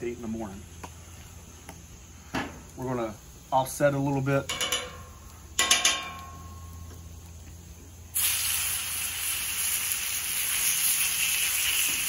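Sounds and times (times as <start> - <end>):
meat sizzling on a griddle: 0.6 - 12.0.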